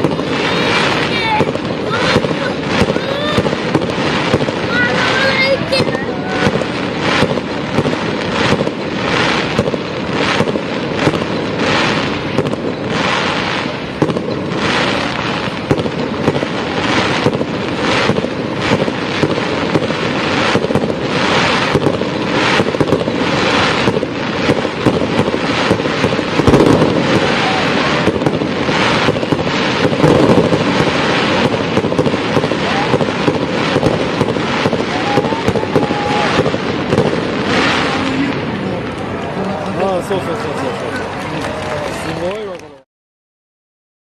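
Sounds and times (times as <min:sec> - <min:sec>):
fireworks bangs: 0:00.0 - 0:42.8
fireworks crackling: 0:00.0 - 0:42.8.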